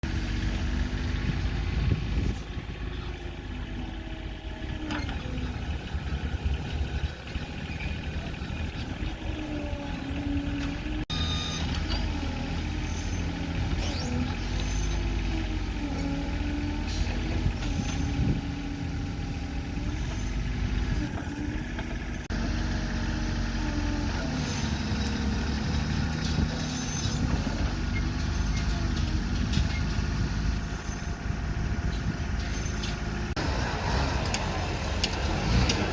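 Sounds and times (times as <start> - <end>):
bulldozer engine working: 0.0 - 35.9.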